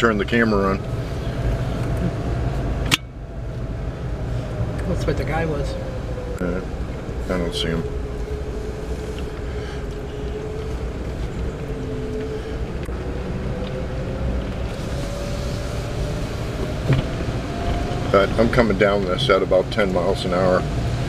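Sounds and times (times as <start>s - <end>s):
faint rising hum: 0.0s - 21.0s
truck engine and road rumble: 0.0s - 21.0s.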